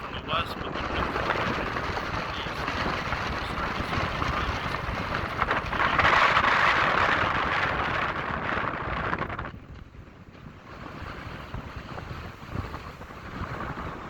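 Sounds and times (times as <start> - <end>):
wind and rain rushing: 0.0 - 14.0
wind buffeting microphone: 0.0 - 14.0.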